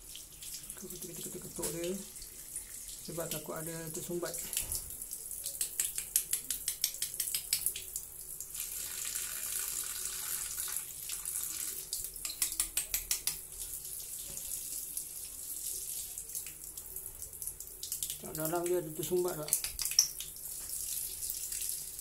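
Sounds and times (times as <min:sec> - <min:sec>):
tap water running and splashing: 0:00.0 - 0:22.0.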